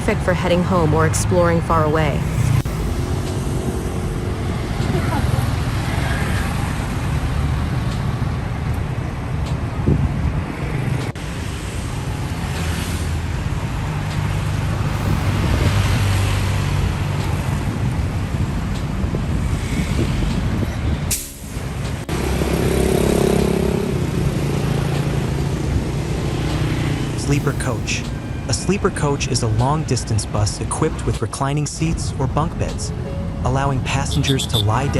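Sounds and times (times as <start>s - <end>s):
bus engine running: 0.0s - 34.9s
road traffic noise: 0.0s - 34.9s.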